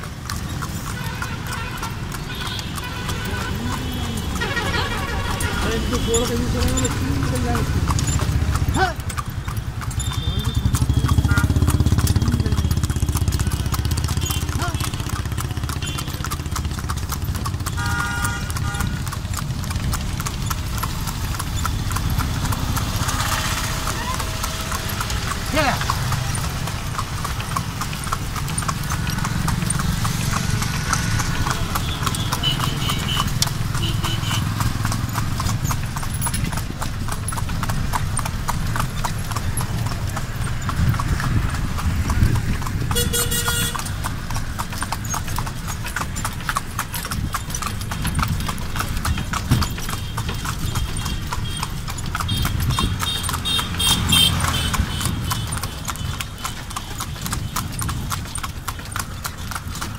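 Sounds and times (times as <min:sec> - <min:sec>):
hooves clip-clopping on pavement: 0:00.0 - 0:59.9.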